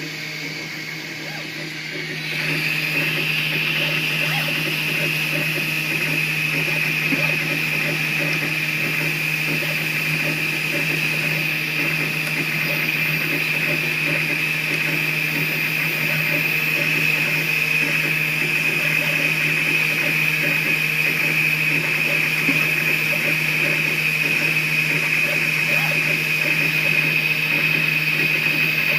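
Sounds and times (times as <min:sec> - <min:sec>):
printer whirring hum: 0:00.0 - 0:28.9.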